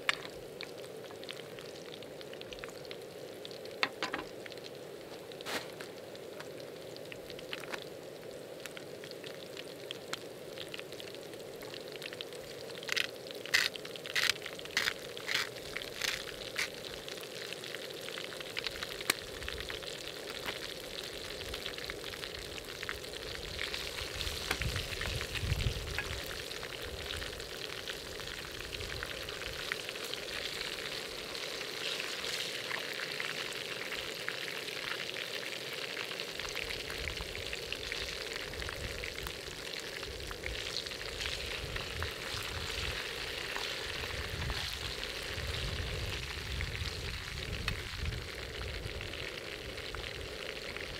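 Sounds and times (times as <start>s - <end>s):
oil sizzling in a pan: 0.0s - 50.9s.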